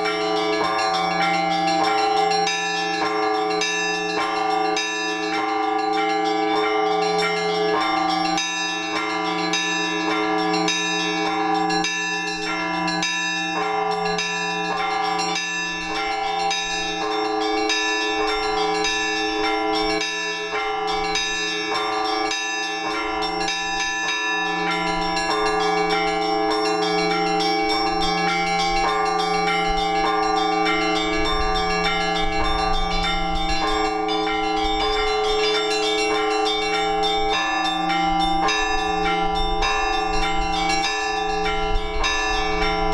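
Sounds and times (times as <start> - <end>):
hum of large bells: 0.0 - 42.9
small bells struck quickly: 0.0 - 42.9.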